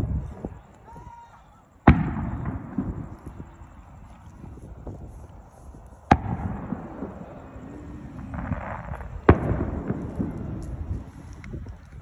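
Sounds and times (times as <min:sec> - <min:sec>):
fireworks booming: 0:01.7 - 0:12.0.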